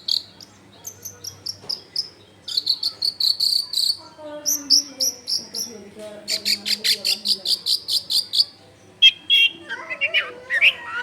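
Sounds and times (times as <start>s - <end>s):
shrike singing: 1.4s - 11.0s.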